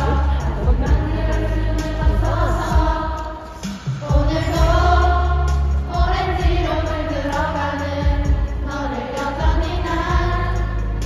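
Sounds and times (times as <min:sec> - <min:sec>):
crowd singing along: 0:00.0 - 0:11.0
loud music with heavy bass: 0:00.0 - 0:11.0.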